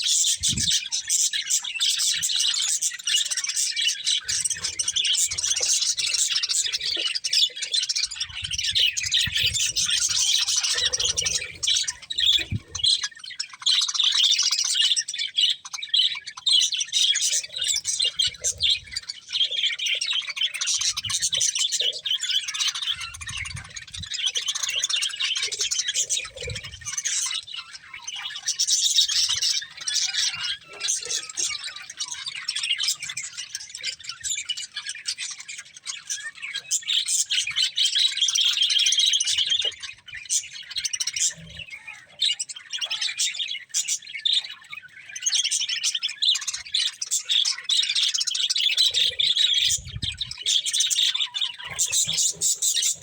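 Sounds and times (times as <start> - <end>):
budgerigars chirping: 0.0 - 53.0.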